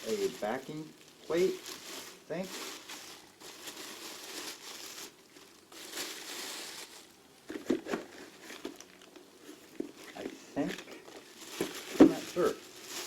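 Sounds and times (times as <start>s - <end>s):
wrapping crinkling: 0.0s - 13.0s.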